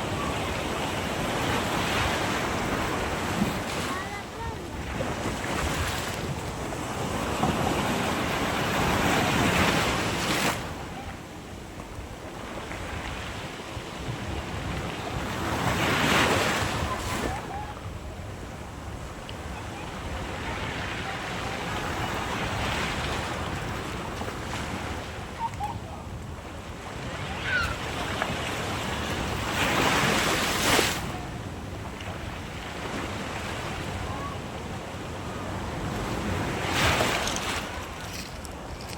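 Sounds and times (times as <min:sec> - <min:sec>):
sea waves washing on shore: 0:00.0 - 0:38.9.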